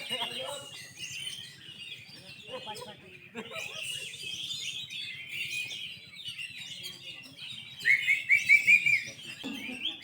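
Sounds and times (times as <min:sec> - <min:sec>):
birds chirping and whistling: 0:00.0 - 0:10.0.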